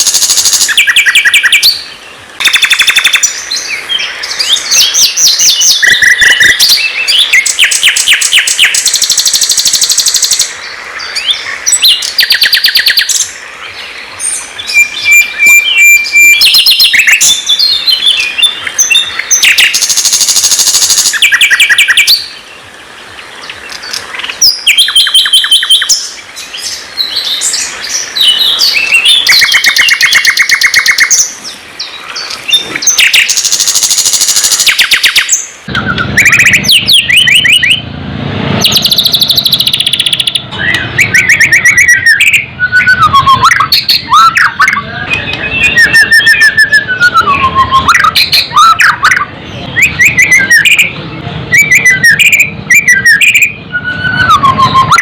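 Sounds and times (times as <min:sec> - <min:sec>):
low background noise: 0:00.0 - 0:55.0
songbird singing: 0:00.0 - 0:55.0.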